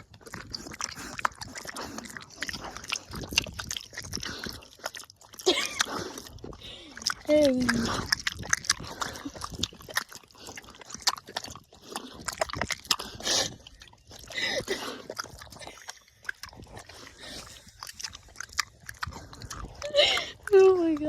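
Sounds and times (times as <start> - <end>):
pig chewing wetly: 0.0 - 21.0.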